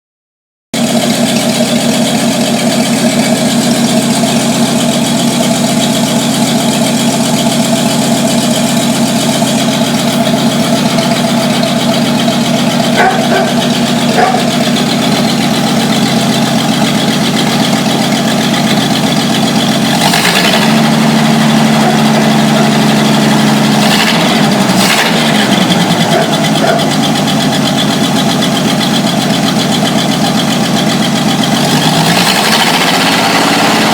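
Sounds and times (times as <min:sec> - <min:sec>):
truck engine idling: 0:00.7 - 0:33.9.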